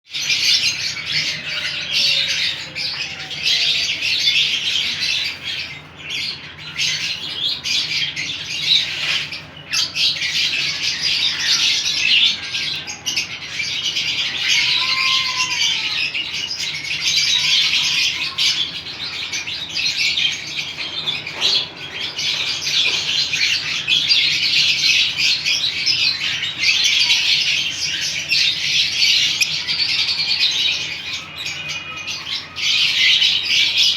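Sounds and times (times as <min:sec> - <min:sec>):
pet birds chirping and squawking: 0:00.1 - 0:33.9.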